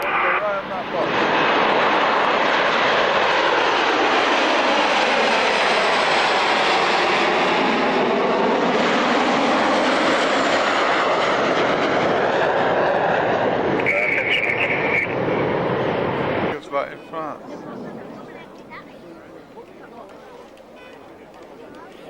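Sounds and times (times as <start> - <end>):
jets taking off: 0.0 - 19.5.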